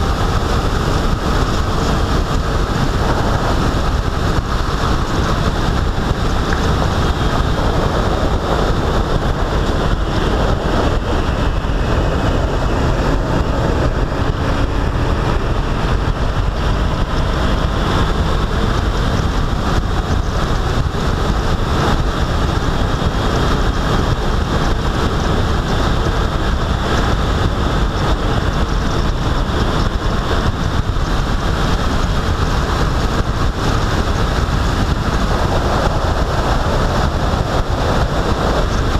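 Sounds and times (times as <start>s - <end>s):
road noise: 0.0s - 38.9s
wind rush on microphone: 0.0s - 38.9s.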